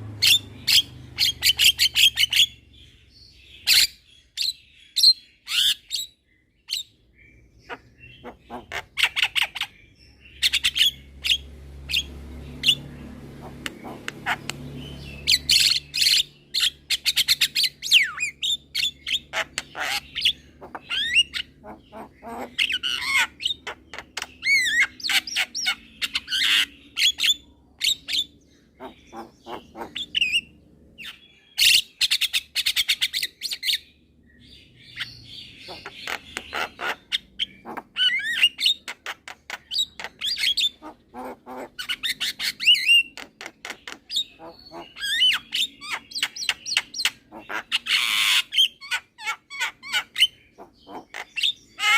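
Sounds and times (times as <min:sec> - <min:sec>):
myna bird singing: 0:00.0 - 0:51.9.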